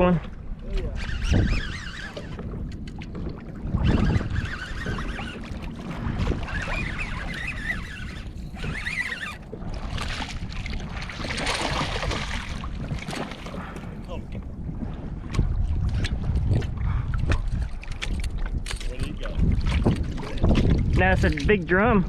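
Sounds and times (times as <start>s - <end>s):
water moving around kayak: 0.0s - 22.0s
wind buffeting microphone: 0.0s - 22.0s.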